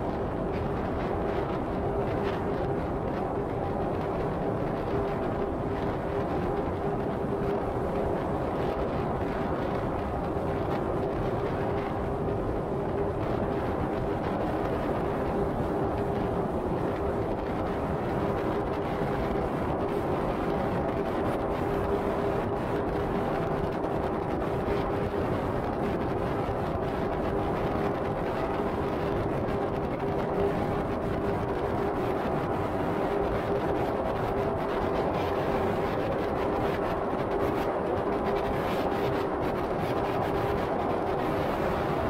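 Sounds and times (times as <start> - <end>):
car road and tyre noise: 0.0 - 42.0
constant hum: 0.0 - 42.0.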